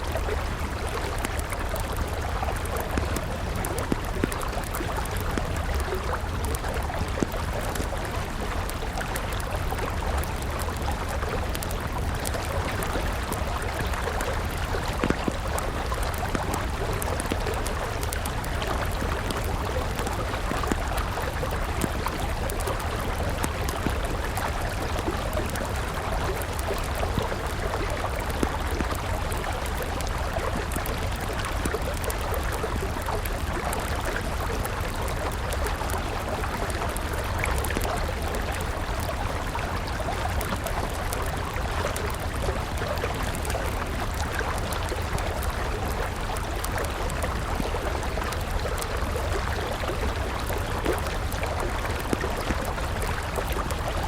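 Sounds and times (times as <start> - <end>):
campfire crackling: 0.0 - 54.0
flowing river: 0.0 - 54.0.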